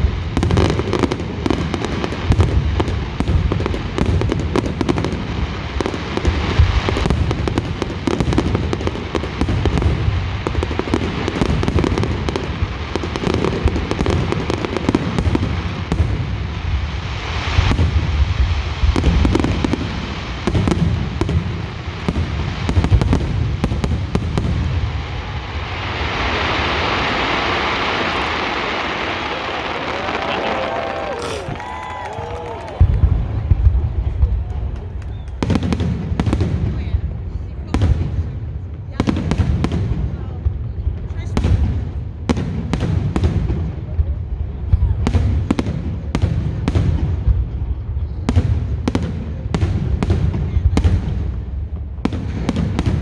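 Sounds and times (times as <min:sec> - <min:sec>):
fireworks bangs and booms: 0:00.0 - 0:53.0.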